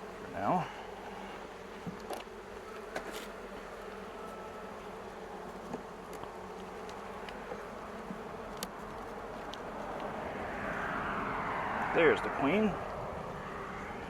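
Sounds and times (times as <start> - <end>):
bees humming: 0.0 - 14.0.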